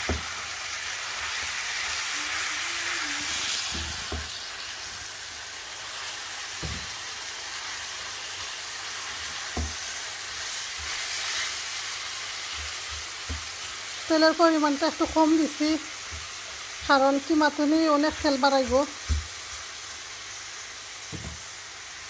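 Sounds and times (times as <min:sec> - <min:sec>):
meat sizzling in frying pan: 0:00.0 - 0:22.0.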